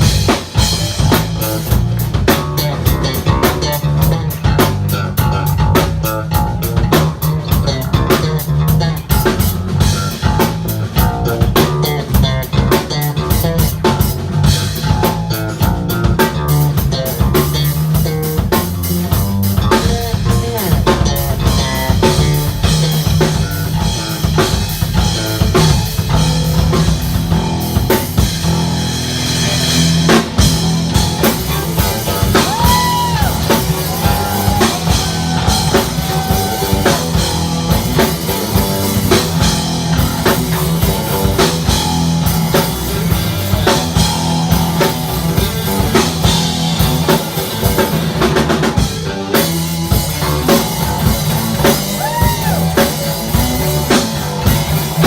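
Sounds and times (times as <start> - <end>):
bass line: 0.0 - 55.0
drum kit: 0.0 - 55.0
electric guitar: 0.0 - 55.0.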